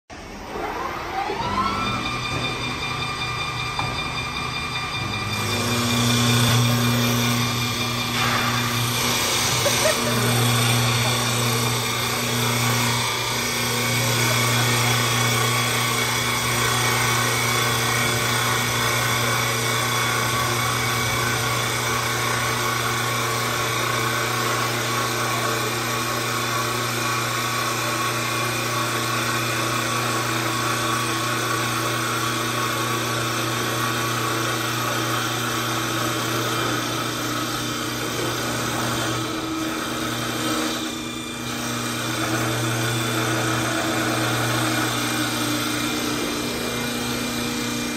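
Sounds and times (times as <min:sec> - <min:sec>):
lathe motor hum: 0:00.2 - 0:47.9
wood being cut rasping: 0:03.8 - 0:47.9.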